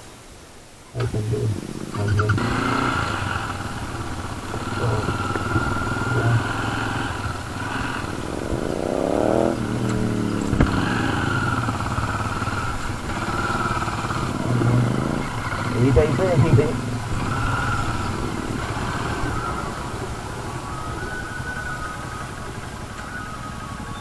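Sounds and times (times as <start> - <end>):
motorcycle engine running and revving: 1.0 - 24.0.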